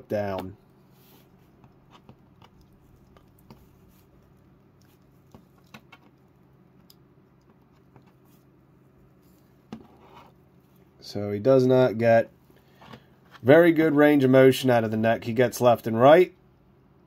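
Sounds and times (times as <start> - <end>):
low steady room hum: 0.0 - 17.0.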